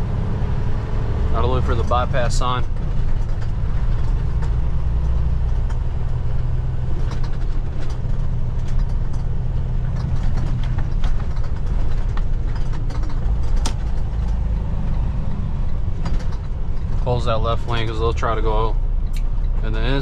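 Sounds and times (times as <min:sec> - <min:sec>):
diesel truck engine running: 0:00.0 - 0:20.0
light clicks and rattles: 0:01.4 - 0:20.0.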